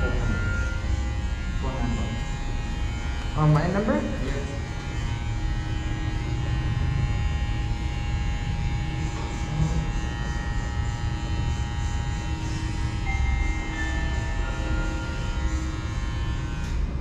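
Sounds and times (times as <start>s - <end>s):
electric hair clippers buzzing: 0.0s - 17.0s
low electrical hum: 0.0s - 17.0s.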